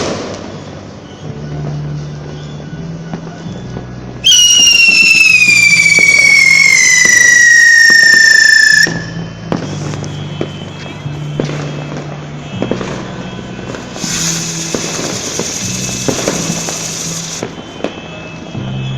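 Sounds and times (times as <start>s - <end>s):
shrill firework whistle: 0.1s - 18.9s.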